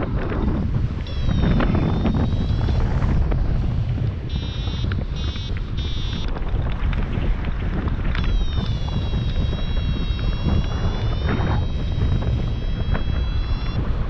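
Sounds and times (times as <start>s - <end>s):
held electronic tone: 0.0s - 6.6s, 8.1s - 13.8s
variometer beeping: 0.0s - 13.8s
wind rushing over microphone: 0.0s - 14.0s.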